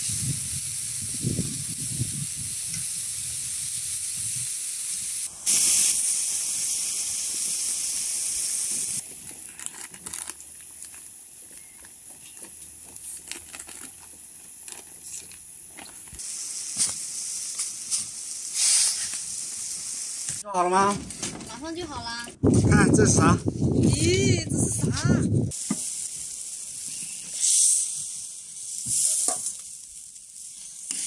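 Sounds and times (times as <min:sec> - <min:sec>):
stew boiling and sizzling: 0:00.0 - 0:22.2, 0:25.5 - 0:31.0.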